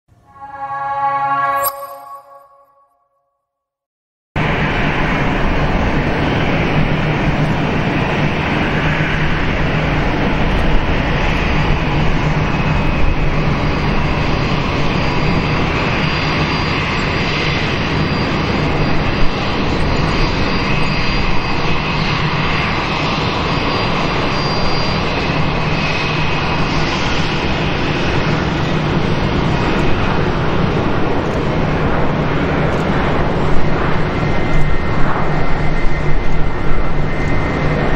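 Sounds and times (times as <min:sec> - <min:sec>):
jet engines on landing: 0:04.4 - 0:37.9.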